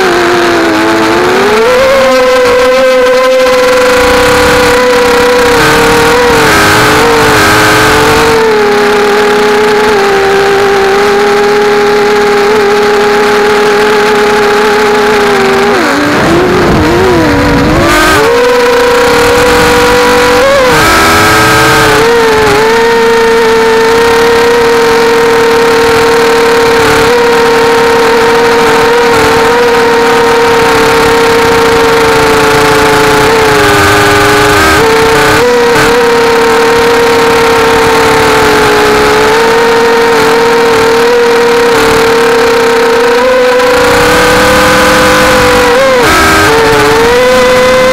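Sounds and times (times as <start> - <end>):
quadcopter motors whining: 0.0 - 47.9.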